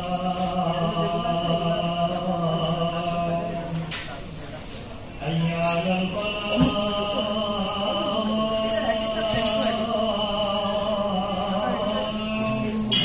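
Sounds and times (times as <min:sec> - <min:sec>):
voice chanting a long note: 0:00.0 - 0:03.9, 0:05.2 - 0:13.0.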